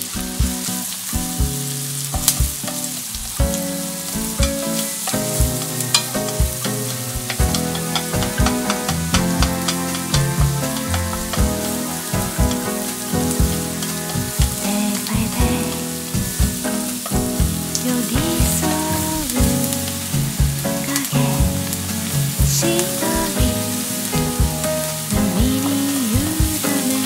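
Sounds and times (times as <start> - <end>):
background music with melody: 0.0 - 27.0
onions sizzling in a pan: 0.0 - 27.0
chopsticks stirring in pan: 1.6 - 27.0.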